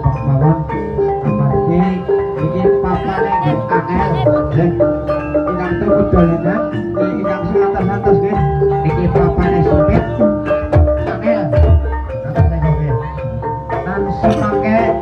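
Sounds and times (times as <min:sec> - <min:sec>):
gamelan keyed instruments melody: 0:00.0 - 0:15.0
hand drum strokes: 0:00.0 - 0:15.0.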